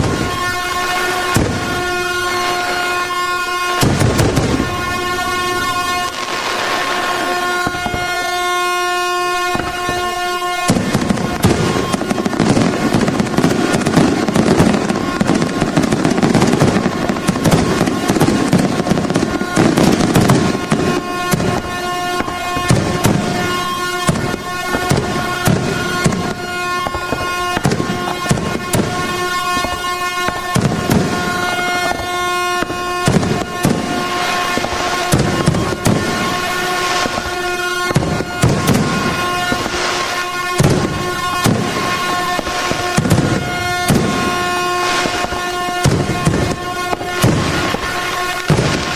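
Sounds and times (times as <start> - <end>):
fireworks bangs and crackles: 0.0 - 48.9
steady air horn tone: 0.0 - 48.9.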